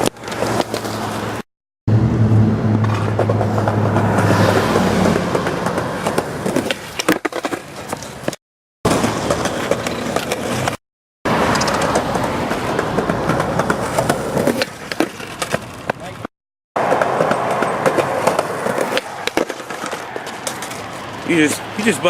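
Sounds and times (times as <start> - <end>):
small wheels rolling over pavement: 0.0 - 1.4, 2.8 - 22.0.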